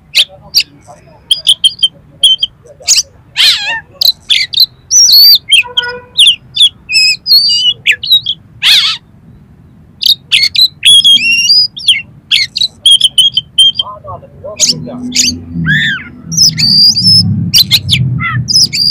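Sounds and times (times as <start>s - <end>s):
bird singing varied chirps: 0.0s - 18.9s.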